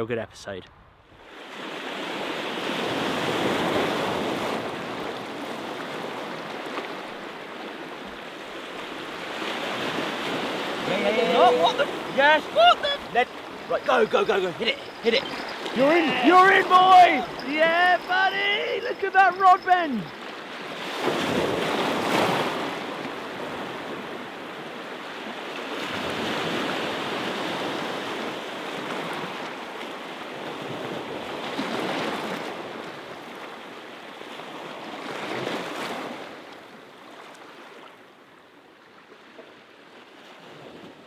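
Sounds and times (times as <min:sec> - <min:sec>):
sea waves washing ashore: 0:01.0 - 0:41.0.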